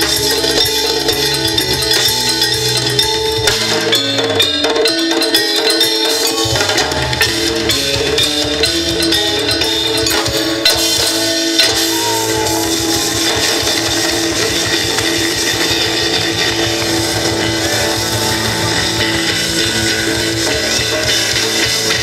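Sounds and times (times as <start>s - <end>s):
live reggae band playing: 0.0s - 22.0s.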